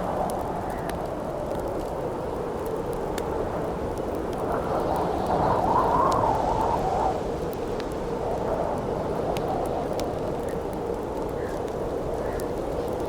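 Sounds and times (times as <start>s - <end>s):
campfire crackling and popping: 0.0s - 6.4s, 7.3s - 13.0s
howling wind: 0.0s - 13.0s.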